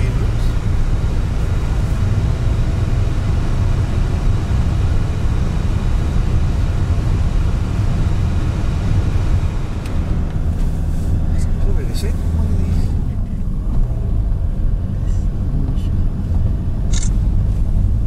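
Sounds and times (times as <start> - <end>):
car cabin engine and tyre rumble: 0.0 - 18.0.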